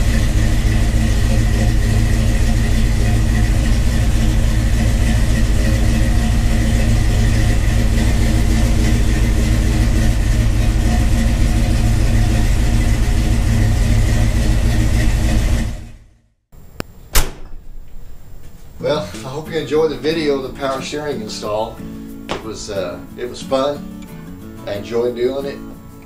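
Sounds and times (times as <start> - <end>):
power steering running: 0.0 - 20.9
car engine idling: 0.0 - 23.7.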